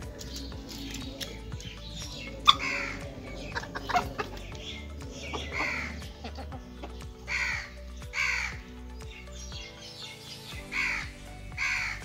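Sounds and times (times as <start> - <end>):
harsh falling bird calls: 0.0 - 12.0
quiet music with low tone: 0.0 - 12.0.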